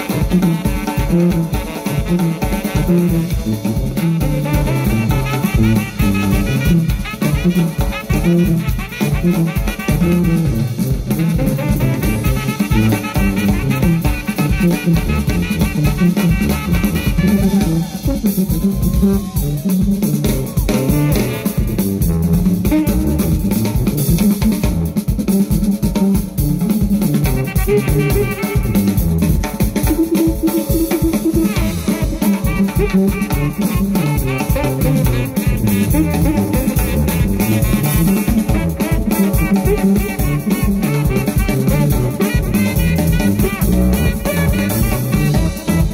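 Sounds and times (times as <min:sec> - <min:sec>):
drum kit driving rhythm: 0:00.0 - 0:45.9
tuba bass line: 0:00.0 - 0:45.9.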